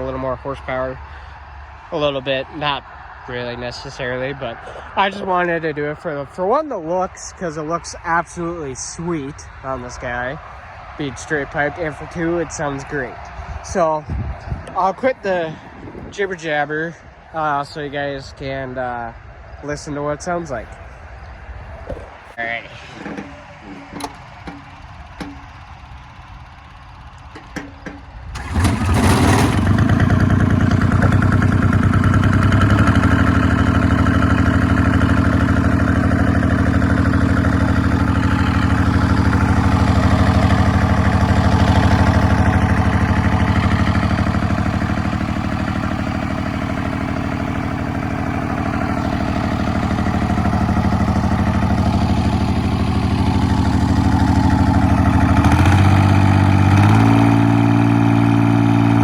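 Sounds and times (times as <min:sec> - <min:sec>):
loud diesel tractor engine: 0:00.0 - 0:21.2, 0:21.9 - 0:59.0.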